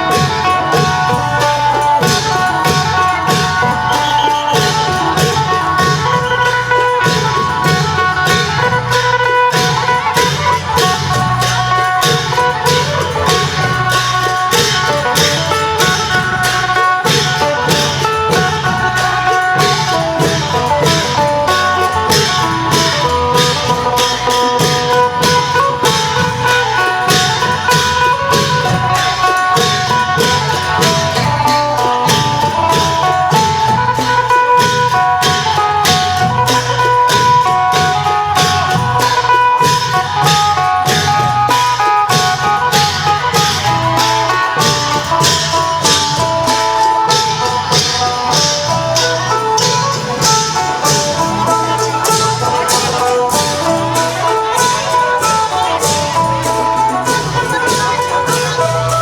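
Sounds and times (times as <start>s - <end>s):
drums and cymbals beat: 0.0s - 59.0s
lute melody: 0.0s - 59.0s.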